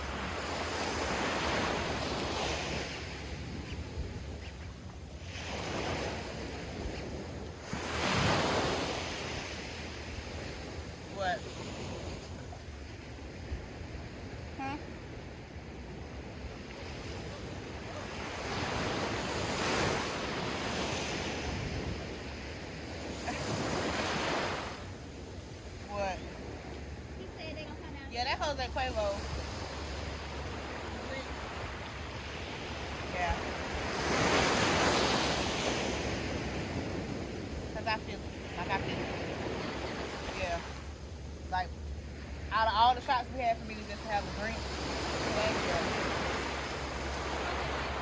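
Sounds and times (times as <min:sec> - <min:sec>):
ocean surf washing ashore: 0:00.0 - 0:48.0
wind rumbling on microphone: 0:00.0 - 0:48.0.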